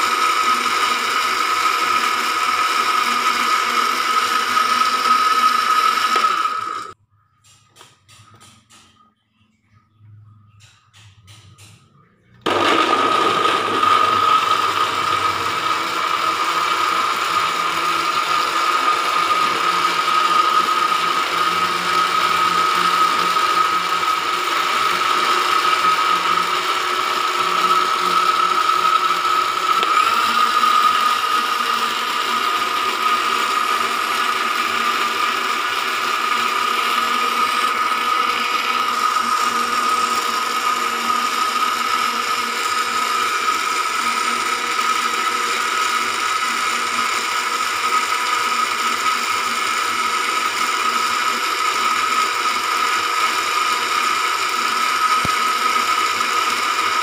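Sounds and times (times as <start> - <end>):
blender motor whine: 0.0 - 7.0, 12.3 - 57.0.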